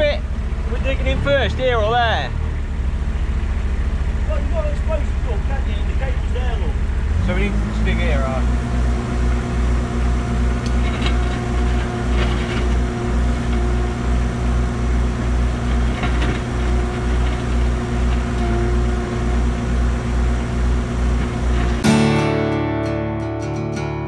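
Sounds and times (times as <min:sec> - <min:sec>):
hydraulic whine: 0:00.0 - 0:22.0
excavator diesel engine running: 0:00.0 - 0:23.4.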